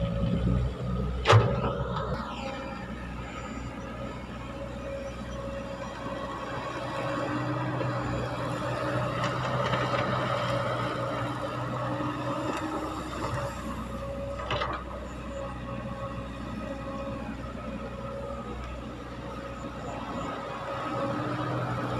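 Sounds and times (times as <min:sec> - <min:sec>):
excavator diesel engine under load: 0:00.0 - 0:21.9.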